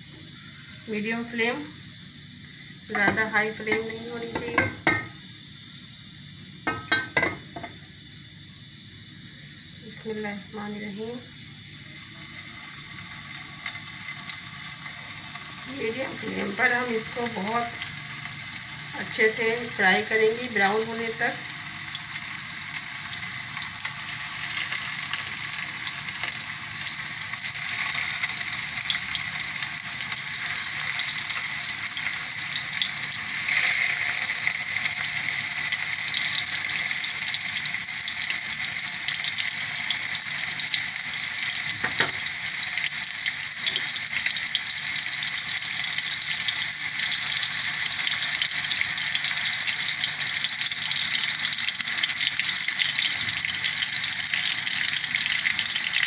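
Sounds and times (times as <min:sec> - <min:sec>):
meat sizzling in hot oil: 0:00.0 - 0:56.0.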